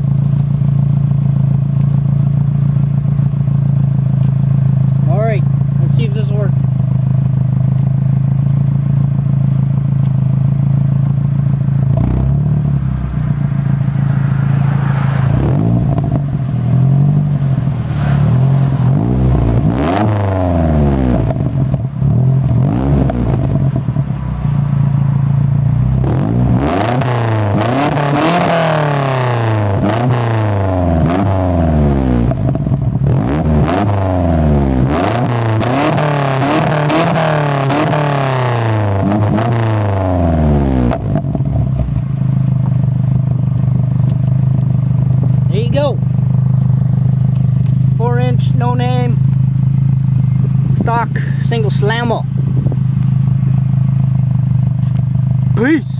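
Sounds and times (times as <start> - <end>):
car engine idling and revving: 0.0 - 55.9.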